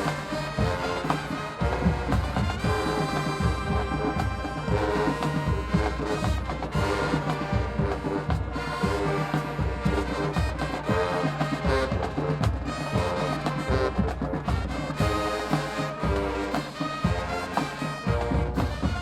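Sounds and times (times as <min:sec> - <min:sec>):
brass horns: 0:00.0 - 0:19.0
driving drum beat: 0:00.0 - 0:19.0
marching band playing: 0:00.0 - 0:19.0.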